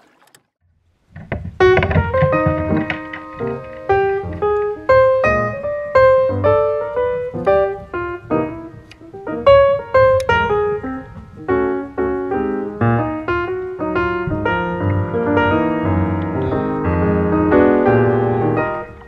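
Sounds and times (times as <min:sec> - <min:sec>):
background piano music: 0:01.6 - 0:19.0.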